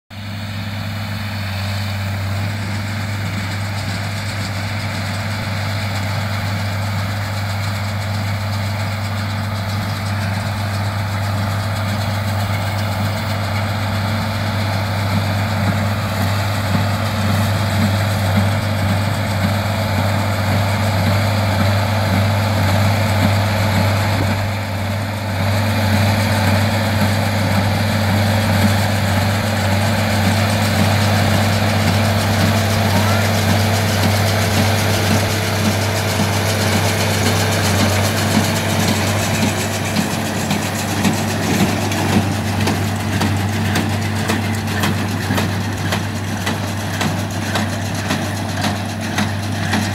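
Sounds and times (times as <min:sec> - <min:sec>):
tractor engine running: 0:00.1 - 0:49.9.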